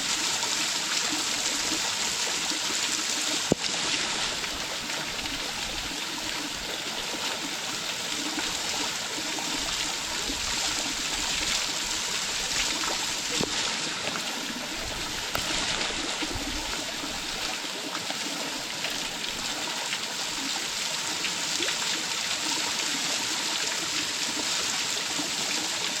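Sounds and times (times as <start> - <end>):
waterfall splashing into pool: 0.0 - 26.0.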